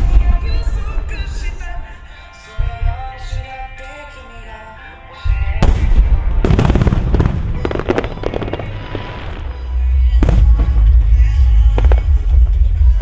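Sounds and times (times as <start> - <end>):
fireworks bangs and crackling: 0.0 - 3.7, 5.3 - 13.0
music: 0.0 - 13.0.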